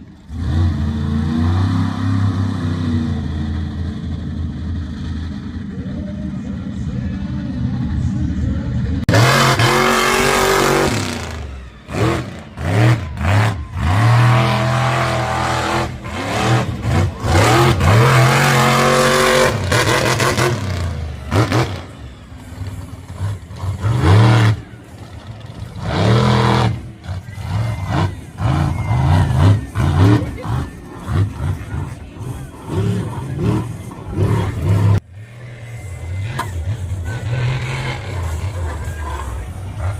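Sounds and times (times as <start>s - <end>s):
monster truck engines revving: 0.0s - 39.9s.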